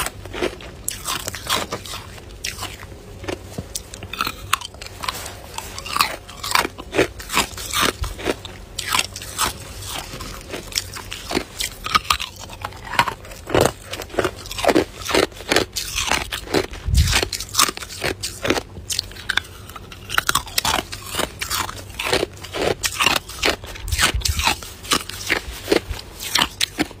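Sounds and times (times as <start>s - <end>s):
person crunching ice: 0.0s - 27.0s.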